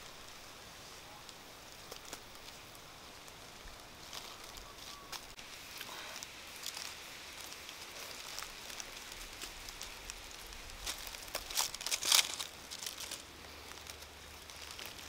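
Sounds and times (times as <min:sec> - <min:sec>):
dry leaves crinkling: 0:00.0 - 0:15.0.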